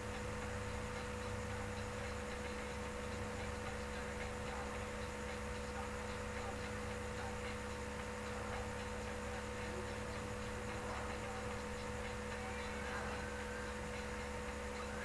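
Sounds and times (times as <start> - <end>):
electrical hum with hiss: 0.0 - 15.0
faint ticking: 0.0 - 15.0.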